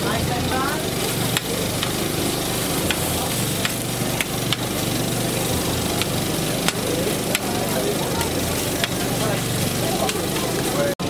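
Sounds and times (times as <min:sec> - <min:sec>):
low engine hum: 0:00.0 - 0:11.0
meat sizzling on a griddle: 0:00.0 - 0:11.0
tongs clicking and scraping: 0:00.8 - 0:10.8.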